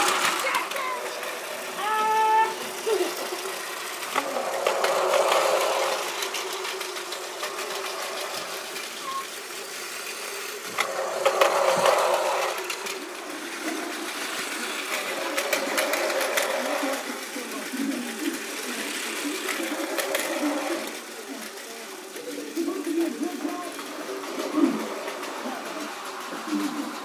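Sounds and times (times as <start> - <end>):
toy train motor whirring: 0.0 - 27.0.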